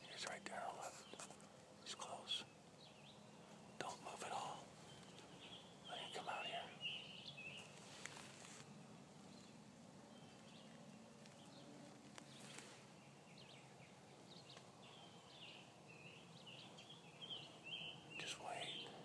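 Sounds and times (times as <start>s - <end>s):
bird chirps: 0.0s - 7.8s, 8.6s - 19.0s
faint outdoor ambience: 0.0s - 19.0s.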